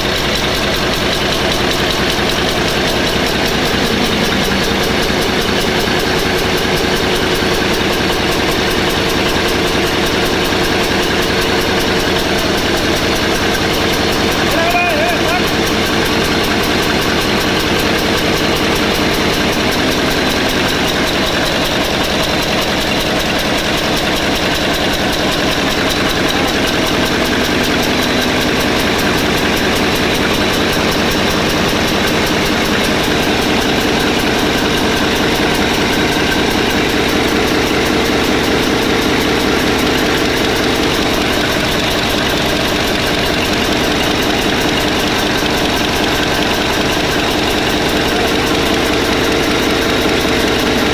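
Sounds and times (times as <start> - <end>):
generator engine running: 0.0 - 50.9.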